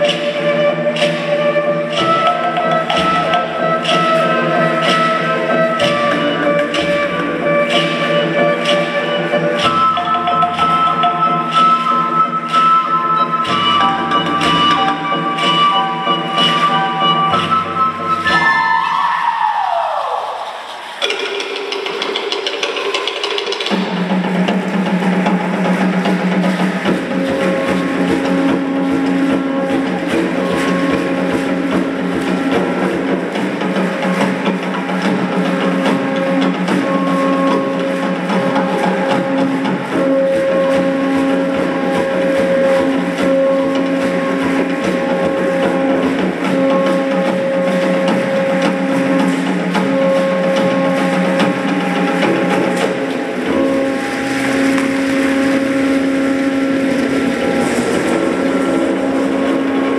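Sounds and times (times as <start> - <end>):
conch-shell horns: 0.0 - 19.3, 24.9 - 59.9.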